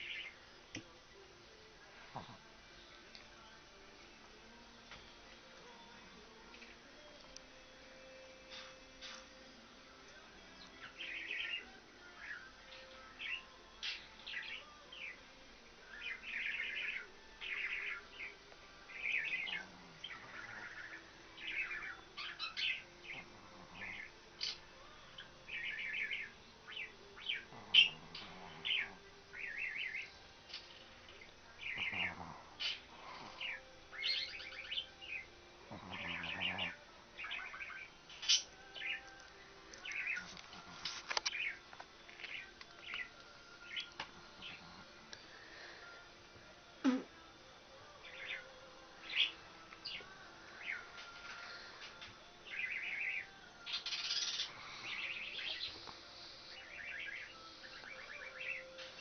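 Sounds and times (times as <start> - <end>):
birds chirping: 0.0 - 0.9, 10.0 - 46.1, 47.8 - 59.0.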